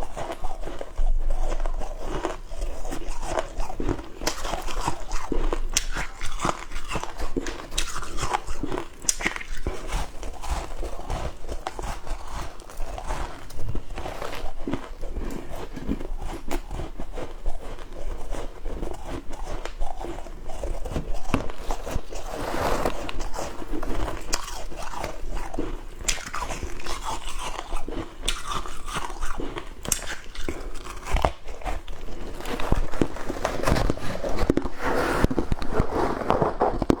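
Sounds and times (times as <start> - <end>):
crunchy chewing of frost: 0.0 - 37.0.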